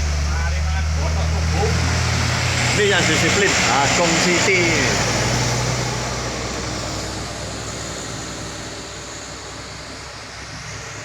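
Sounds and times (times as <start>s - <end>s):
vehicle driving past: 0.0s - 8.9s.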